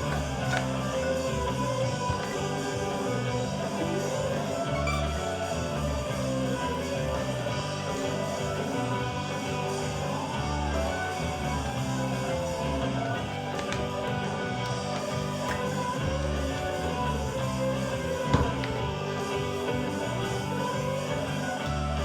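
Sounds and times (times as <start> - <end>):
bass line: 0.0 - 22.0
held chords: 0.0 - 22.0
plucked string instrument: 0.0 - 22.0.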